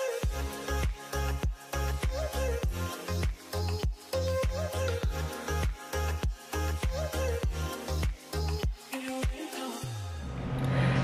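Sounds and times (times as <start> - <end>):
electronic music with bass: 0.0 - 10.0.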